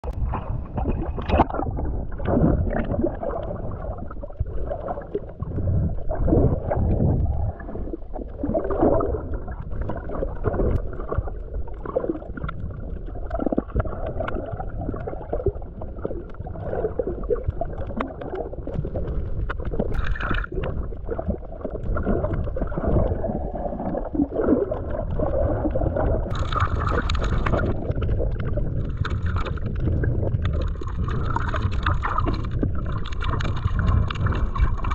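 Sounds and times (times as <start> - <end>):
underwater sloshing and gurgling: 0.0 - 34.9.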